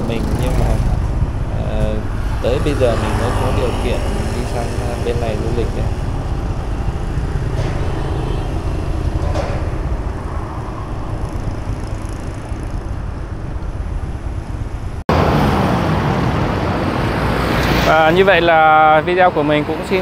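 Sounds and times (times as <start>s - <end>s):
rushing noise: 0.0s - 19.1s
traffic rumble: 0.0s - 20.0s.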